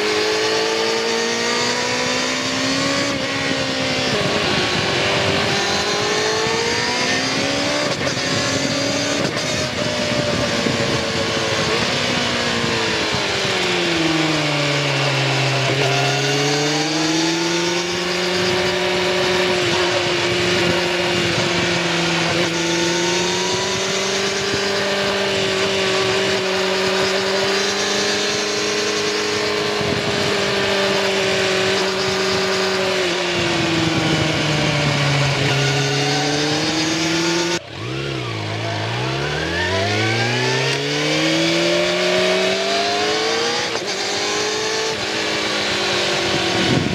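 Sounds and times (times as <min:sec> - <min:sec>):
motorcycle engine revving: 0:00.0 - 0:46.9
wind and road rush: 0:00.0 - 0:46.9.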